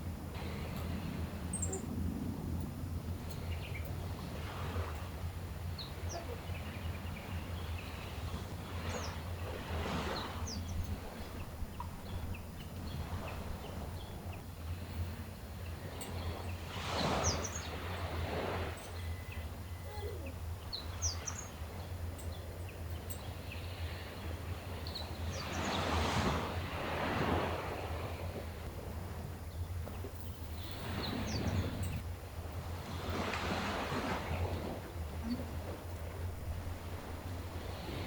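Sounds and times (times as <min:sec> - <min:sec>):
waves washing ashore: 0:00.0 - 0:38.0.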